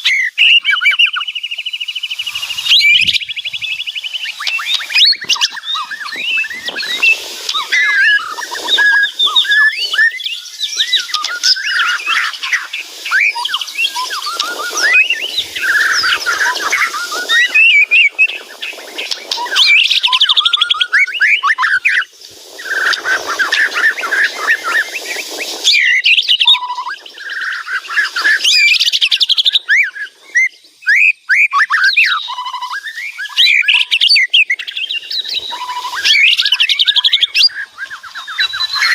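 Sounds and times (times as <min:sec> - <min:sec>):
songbird whistling and trilling: 0:00.0 - 0:38.9.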